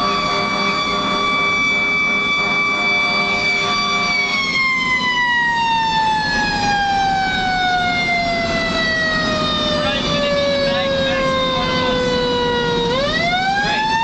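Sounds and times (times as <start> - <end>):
fire engine siren: 0.0 - 14.0.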